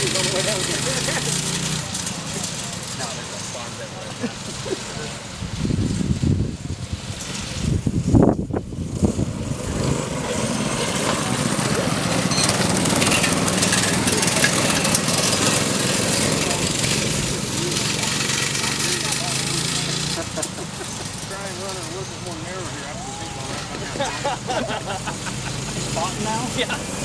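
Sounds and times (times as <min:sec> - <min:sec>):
mini bike engines droning: 0:00.0 - 0:27.0.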